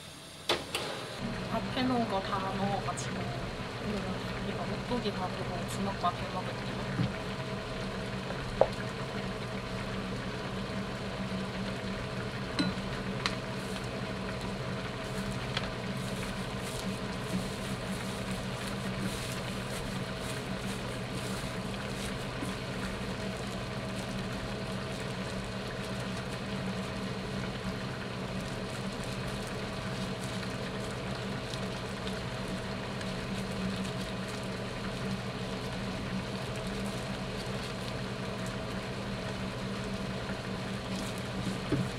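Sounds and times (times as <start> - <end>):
appliance humming: 0.0 - 41.9.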